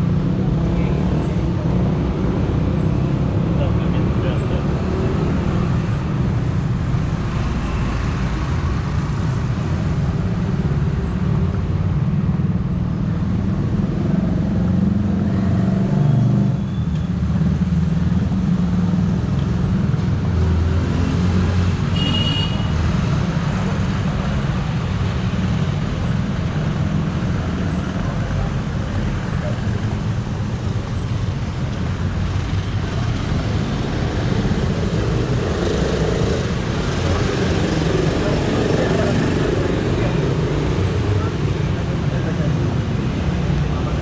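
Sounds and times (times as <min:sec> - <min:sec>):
traffic engine rumble: 0:00.0 - 0:44.0.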